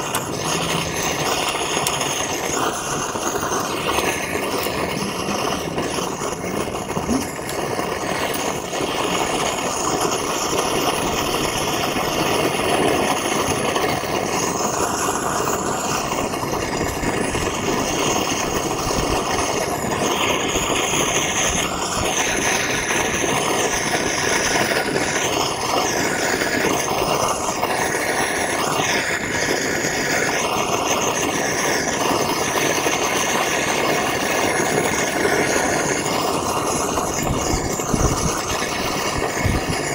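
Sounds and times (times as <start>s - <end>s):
blowtorch flame burning: 0.0s - 39.9s.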